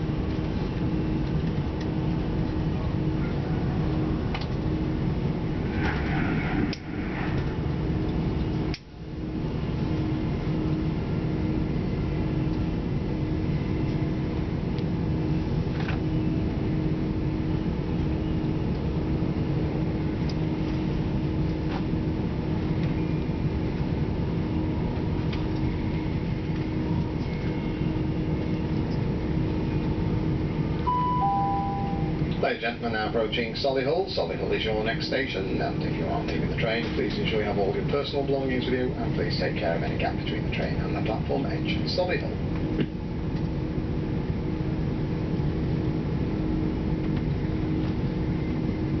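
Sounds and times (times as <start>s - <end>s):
constant humming tone: 0.0s - 49.0s
train interior rumble: 0.0s - 49.0s.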